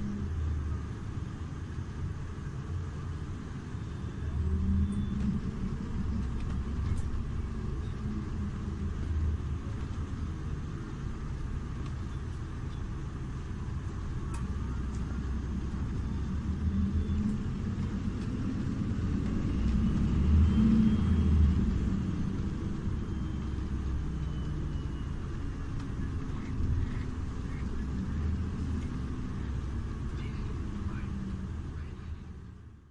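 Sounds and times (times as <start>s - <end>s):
bus engine rumble: 0.0s - 32.9s.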